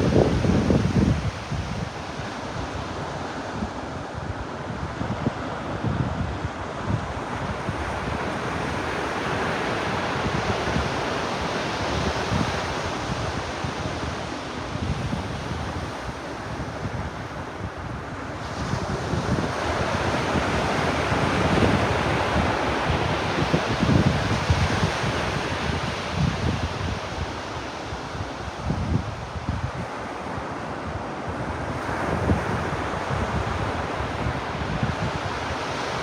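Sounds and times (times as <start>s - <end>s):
ocean waves washing onto beach: 0.0s - 36.0s
wind buffeting microphone: 0.0s - 36.0s.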